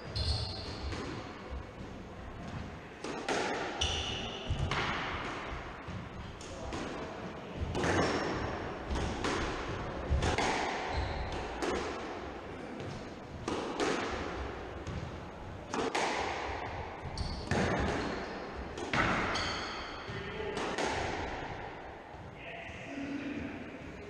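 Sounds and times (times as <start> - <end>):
squash ball hitting rackets and walls: 0.0 - 22.4.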